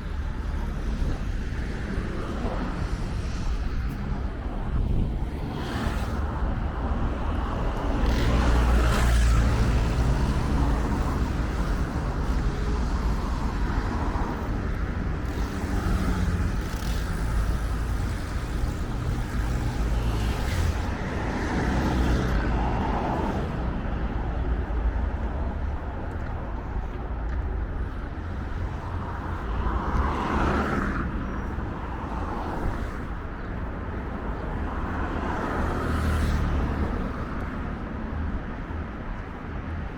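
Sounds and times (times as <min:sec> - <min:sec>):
traffic rumble: 0:00.0 - 0:39.9
vehicles passing by: 0:00.0 - 0:39.9.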